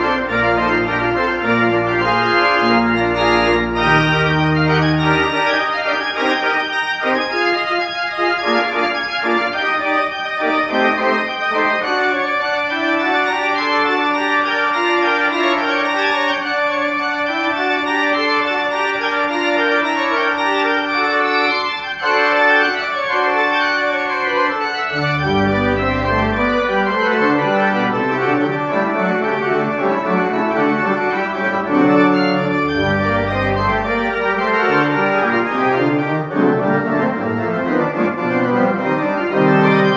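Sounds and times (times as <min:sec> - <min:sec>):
church pipe organ playing: 0:00.0 - 0:39.9.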